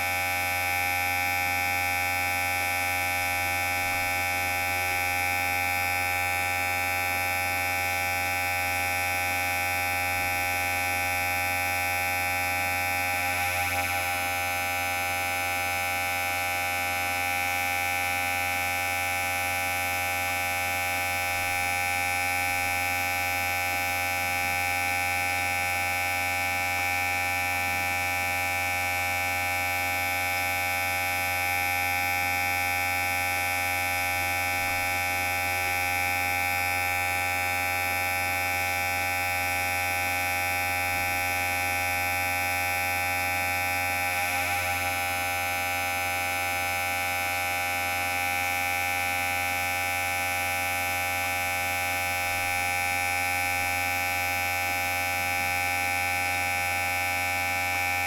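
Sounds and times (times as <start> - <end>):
electric hair clipper buzzing: 0.8 - 16.0, 20.6 - 47.7, 50.0 - 58.0.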